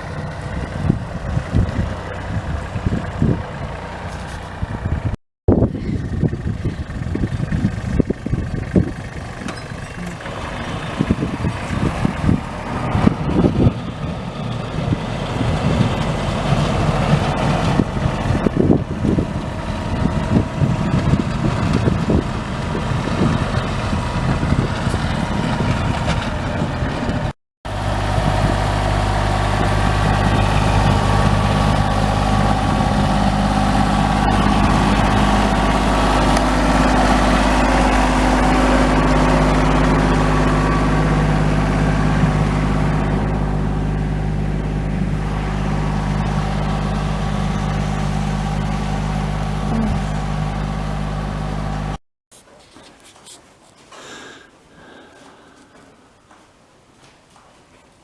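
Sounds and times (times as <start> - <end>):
rough noisy engine sound: 0.0 - 52.0
vehicle engine running: 0.0 - 52.0.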